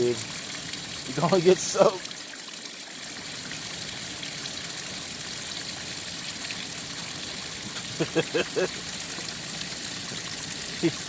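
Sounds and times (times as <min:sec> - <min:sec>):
water running steadily: 0:00.0 - 0:11.0.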